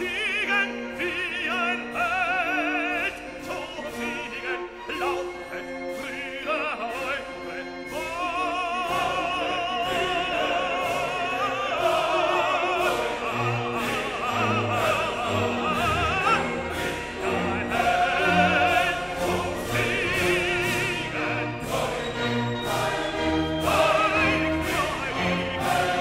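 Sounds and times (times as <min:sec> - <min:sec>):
operatic singing with orchestra: 0:00.0 - 0:26.0.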